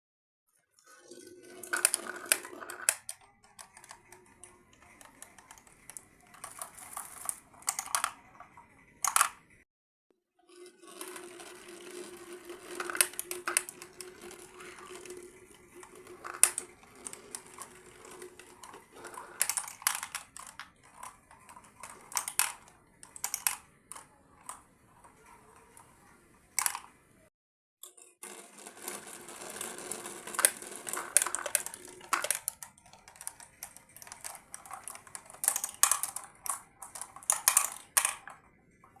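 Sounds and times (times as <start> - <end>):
marbles rolling on a track: 0.8 - 9.6, 10.5 - 27.0, 27.9 - 39.0
marbles clacking against pieces: 1.2 - 9.5, 10.7 - 27.0, 27.9 - 39.0.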